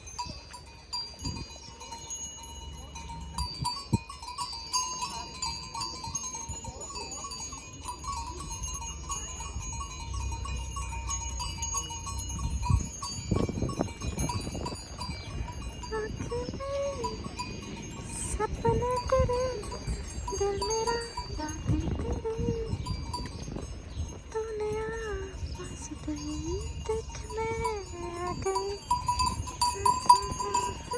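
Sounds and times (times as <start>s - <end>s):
cowbells clanking: 0.0s - 30.9s.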